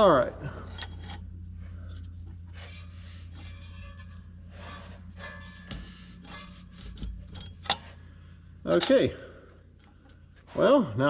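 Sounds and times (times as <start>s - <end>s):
scraping and rubbing on metal parts: 0.0s - 11.0s
steady low hum: 0.0s - 11.0s.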